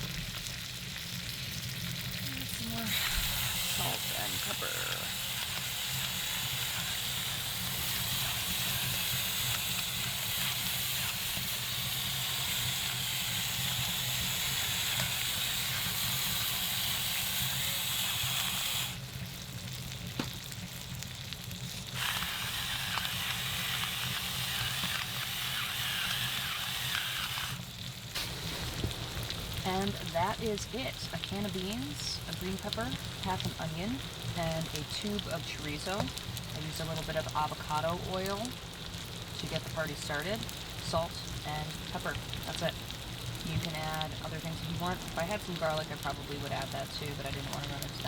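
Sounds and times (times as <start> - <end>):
food sizzling in a pan: 0.0 - 48.0.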